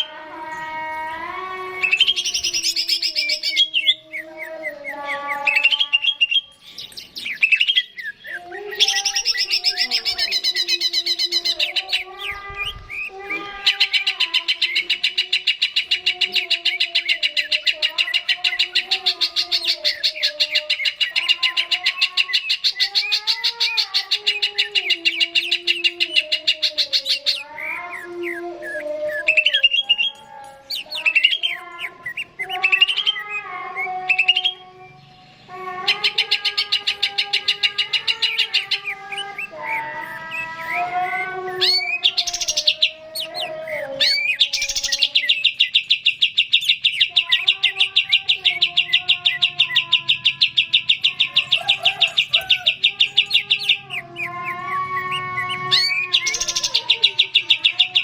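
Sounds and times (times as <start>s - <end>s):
bird singing chirps and whistles: 0.0s - 35.0s, 35.9s - 58.0s
fast bird trill: 1.8s - 34.6s, 35.9s - 58.0s.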